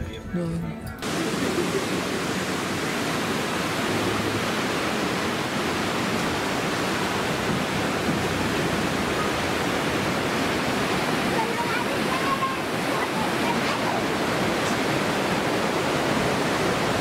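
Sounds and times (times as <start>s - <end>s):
river rushing over rocks: 1.0s - 17.0s.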